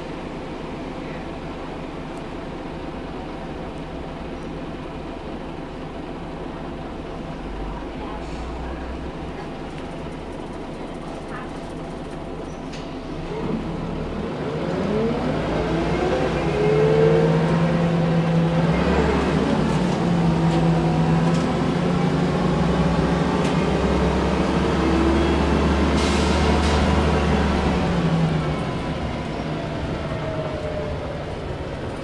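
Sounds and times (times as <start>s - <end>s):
bus diesel engine: 0.0s - 32.0s.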